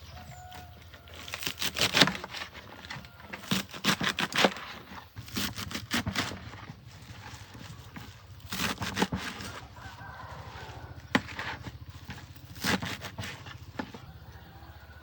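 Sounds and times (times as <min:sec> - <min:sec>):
rustling and crinkling: 0:00.1 - 0:14.1.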